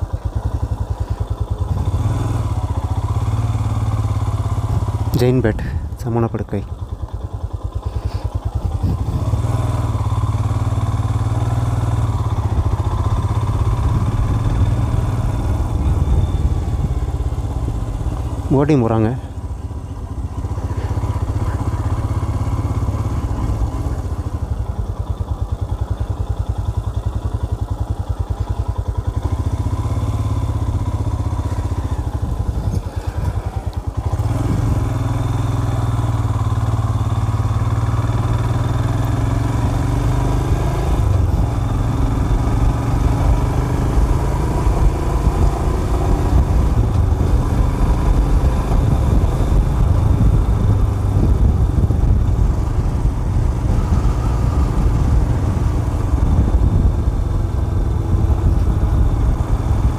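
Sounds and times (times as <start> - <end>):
motorcycle engine drone: 0.0 - 59.9.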